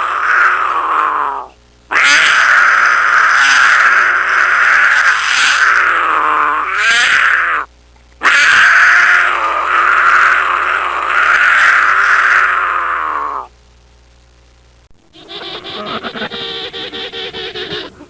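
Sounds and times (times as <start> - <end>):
animal calling: 0.0 - 13.5, 15.0 - 18.0.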